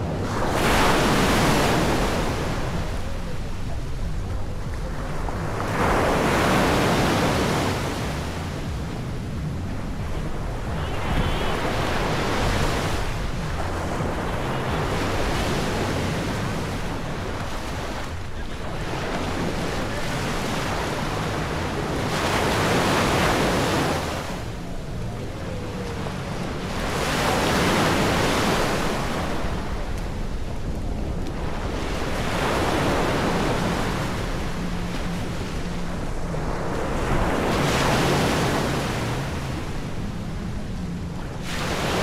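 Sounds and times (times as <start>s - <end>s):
sea waves washing onto beach: 0.0s - 42.0s
wind rumbling on microphone: 0.0s - 42.0s.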